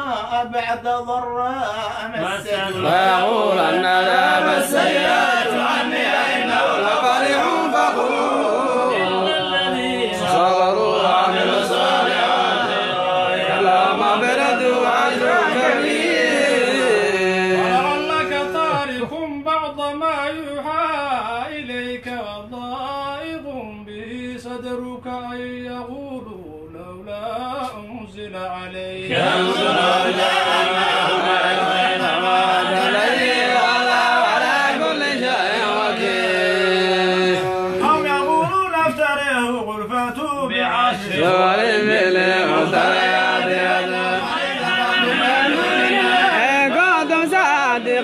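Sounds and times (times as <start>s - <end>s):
men chanting in unison: 0.0s - 25.9s, 27.1s - 48.0s.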